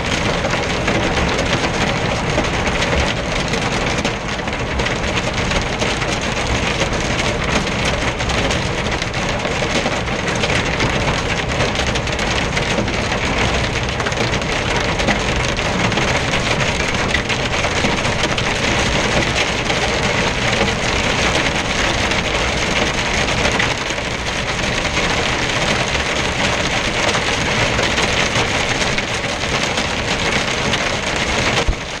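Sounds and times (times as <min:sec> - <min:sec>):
heavy rain on a windscreen: 0:00.0 - 0:32.0.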